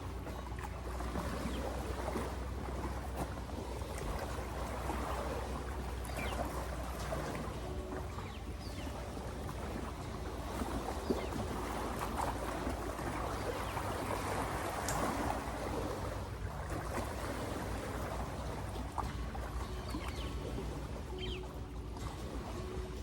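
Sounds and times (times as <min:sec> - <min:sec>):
lake water lapping: 0:00.0 - 0:23.0.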